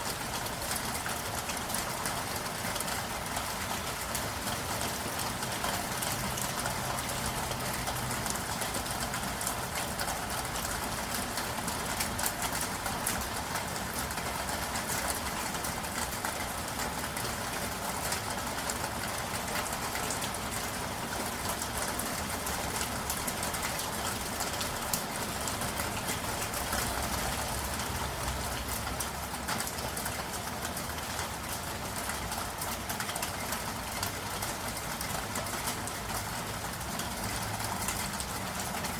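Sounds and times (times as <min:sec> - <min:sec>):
low traffic hum: 0:00.0 - 0:38.9.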